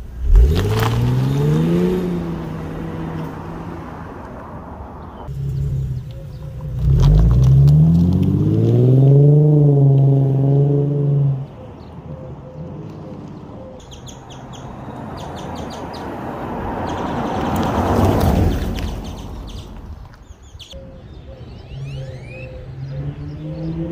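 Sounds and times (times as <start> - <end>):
car engine idling and revving: 0.0 - 23.9
birds chirping: 0.6 - 9.5, 10.1 - 23.9.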